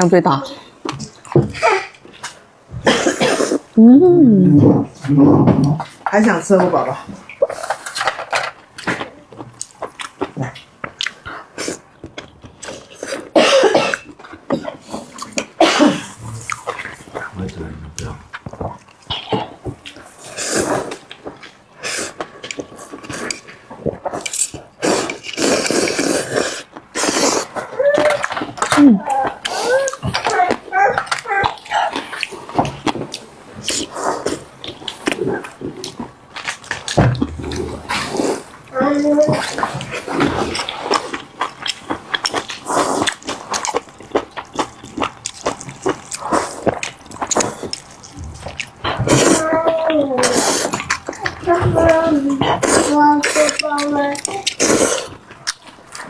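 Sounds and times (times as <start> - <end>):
slurping and chewing food: 0.3 - 3.8, 6.7 - 56.0.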